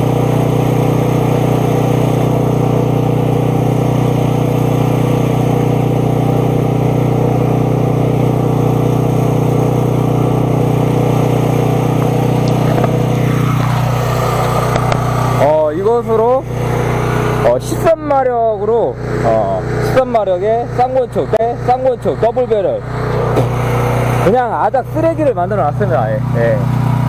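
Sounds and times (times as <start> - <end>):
pressure washer engine running: 0.0 - 27.0.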